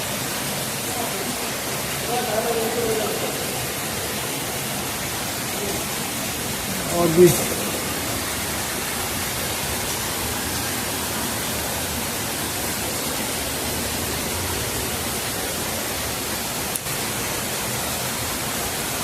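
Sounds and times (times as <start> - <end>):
water falling and dripping: 0.0 - 19.0.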